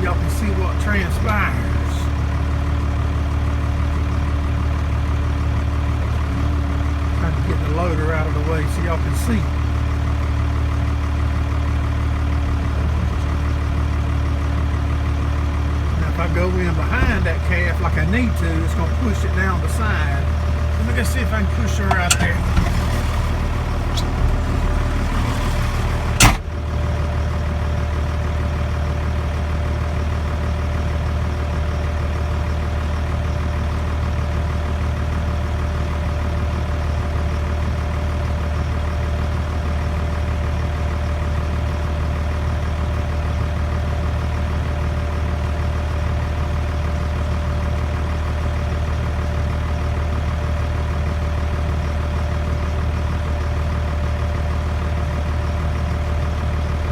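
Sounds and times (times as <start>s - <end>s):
diesel tractor engine idling: 0.0s - 56.9s.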